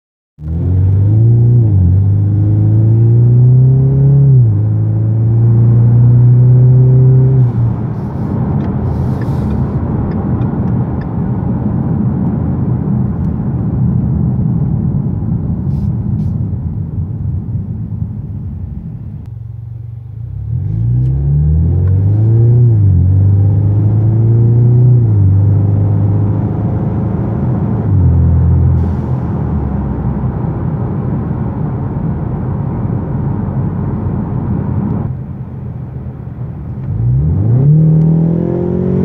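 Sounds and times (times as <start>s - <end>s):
car engine accelerating: 0.4s - 15.4s, 18.5s - 39.0s
low road rumble: 0.4s - 39.0s.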